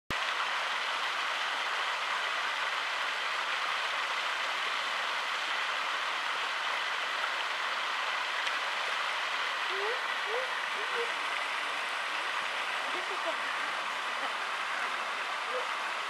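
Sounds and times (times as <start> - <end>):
running water rushing: 0.1 - 16.0.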